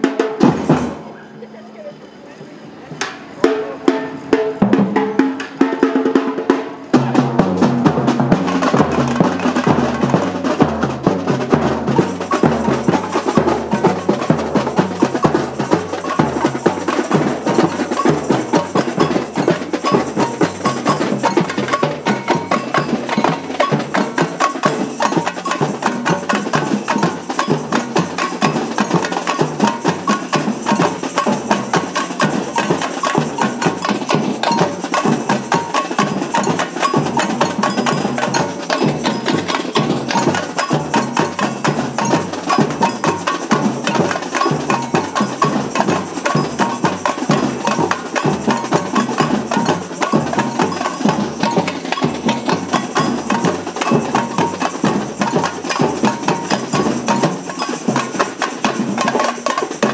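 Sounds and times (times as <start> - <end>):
samba drums playing: 0.0 - 1.3, 2.8 - 59.9
sharp clicking drum strikes: 3.0 - 6.0, 6.8 - 59.9
snare drum rolls: 3.0 - 59.9.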